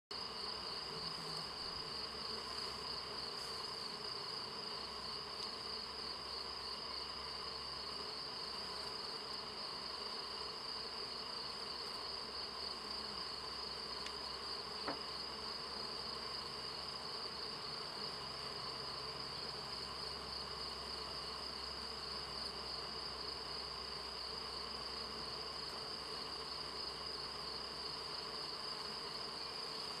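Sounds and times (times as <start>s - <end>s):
honey bees buzzing: 0.2s - 30.0s.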